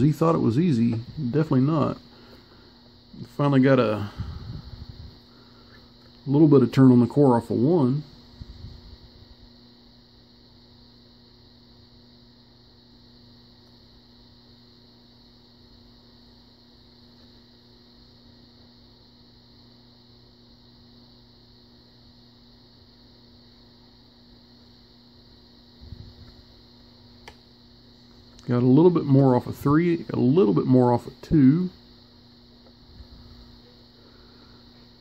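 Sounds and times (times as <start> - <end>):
background hiss: 0.0 - 35.0
faint electrical hum: 0.0 - 35.0.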